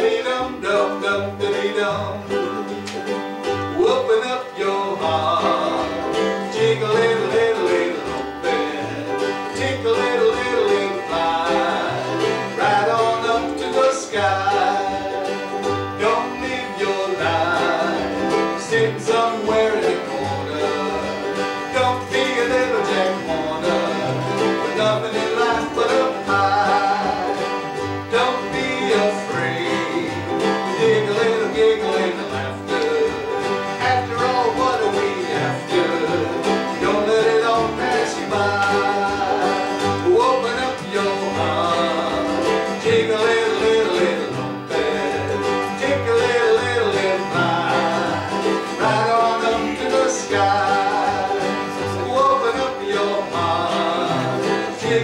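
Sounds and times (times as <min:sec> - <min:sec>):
acoustic guitars: 0:00.0 - 0:55.0
strummed ukulele: 0:00.0 - 0:55.0
upright bass line: 0:00.0 - 0:55.0.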